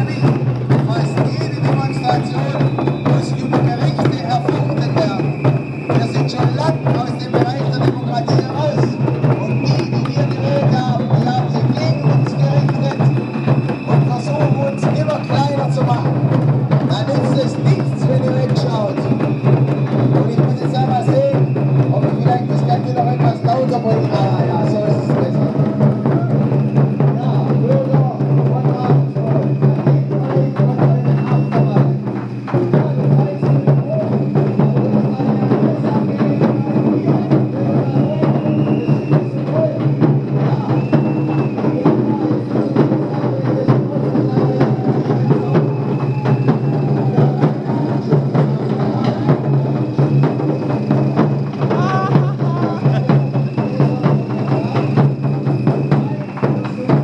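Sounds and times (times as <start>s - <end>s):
taiko drums playing rapidly: 0.0s - 57.0s.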